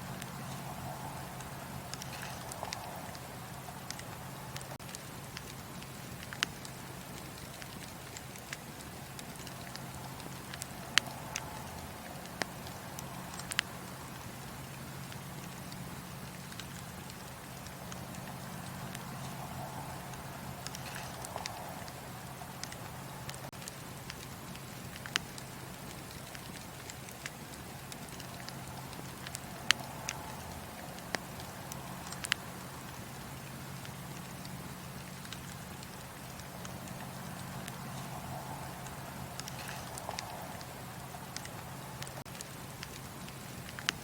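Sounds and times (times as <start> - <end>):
low hiss: 0.0 - 44.0
wood fire crackling: 0.0 - 44.0.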